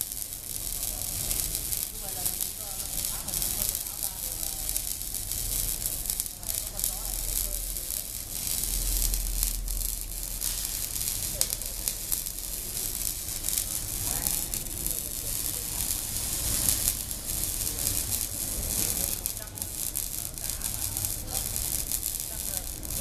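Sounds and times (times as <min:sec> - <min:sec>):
arc welding sizzling: 0:00.0 - 0:23.0.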